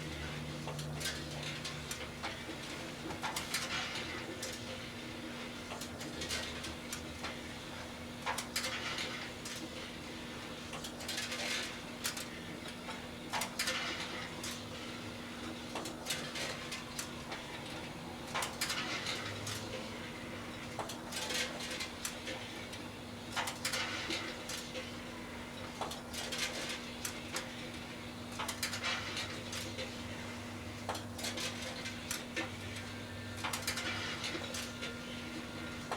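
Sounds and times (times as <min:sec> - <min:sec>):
microwave ovens humming: 0:00.0 - 0:35.9.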